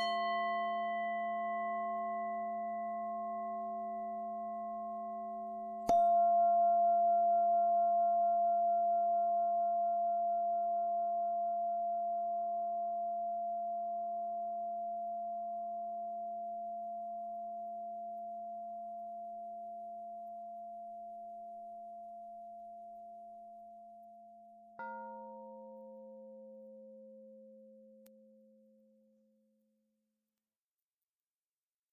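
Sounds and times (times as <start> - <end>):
meditation bell tone: 0.0 - 29.3.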